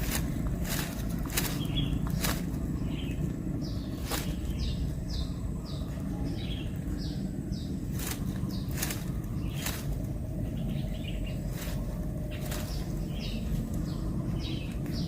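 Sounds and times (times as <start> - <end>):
bird chirping: 0.0 - 15.0
low rumble: 0.0 - 15.0.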